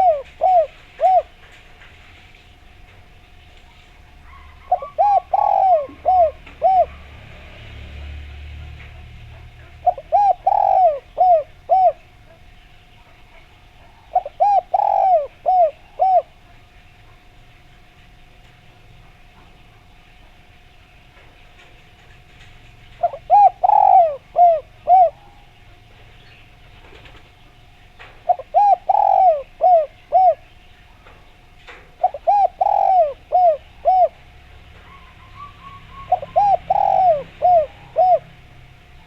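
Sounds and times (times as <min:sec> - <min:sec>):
dove cooing: 0:00.0 - 0:17.8, 0:21.6 - 0:39.0.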